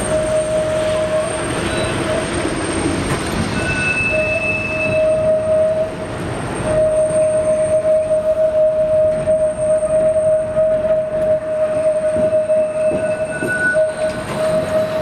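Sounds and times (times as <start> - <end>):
tram rolling on track: 0.0 - 15.0
tram whine: 0.0 - 15.0.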